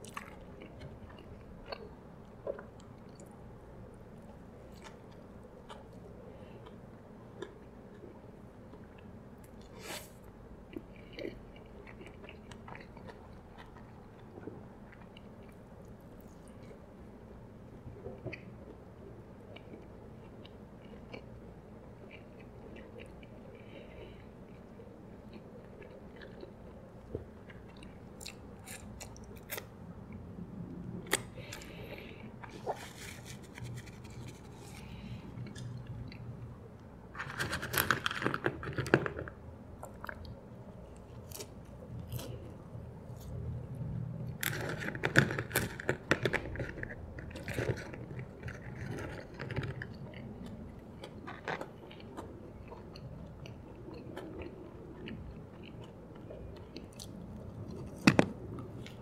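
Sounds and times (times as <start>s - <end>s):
person chewing food: 0.0s - 3.5s, 4.2s - 17.2s, 17.8s - 30.3s, 30.9s - 43.6s, 44.3s - 59.0s.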